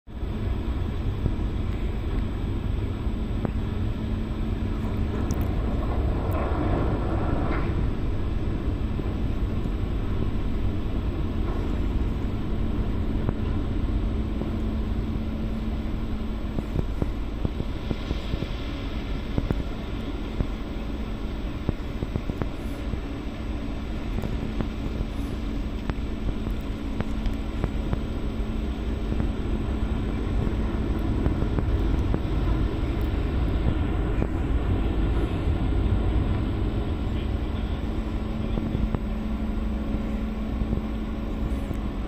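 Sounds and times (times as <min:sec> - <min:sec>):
ship engines rumbling: 0:00.1 - 0:42.0
steady hum: 0:00.1 - 0:42.0.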